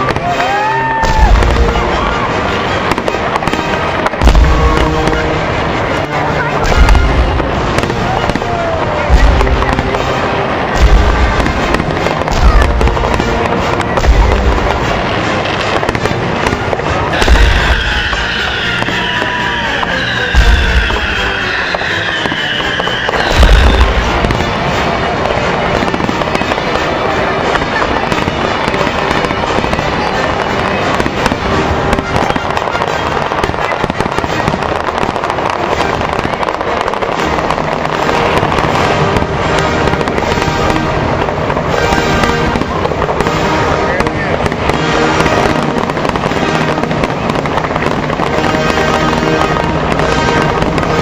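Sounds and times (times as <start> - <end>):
fireworks booming: 0.0 - 51.0
fireworks crackling: 0.0 - 51.0
music: 0.0 - 51.0.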